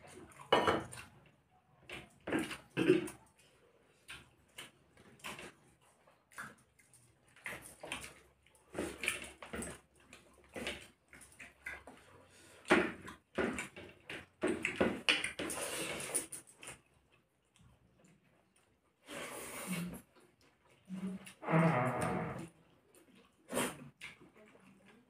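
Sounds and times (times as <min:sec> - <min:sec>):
chewing and mouth noises: 0:00.0 - 0:21.4, 0:22.5 - 0:25.0.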